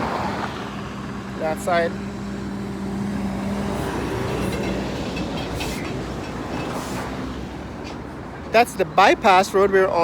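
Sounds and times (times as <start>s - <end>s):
highway traffic passing: 0.0s - 10.0s.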